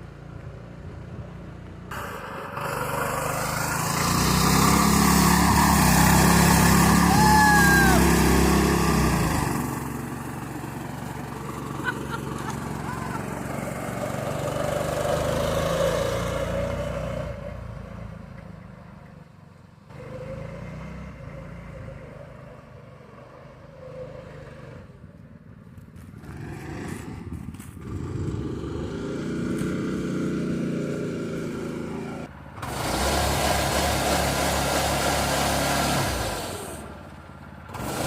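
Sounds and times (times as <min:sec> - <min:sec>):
small engine running at varying revs: 0:00.0 - 0:18.8, 0:19.8 - 0:38.0.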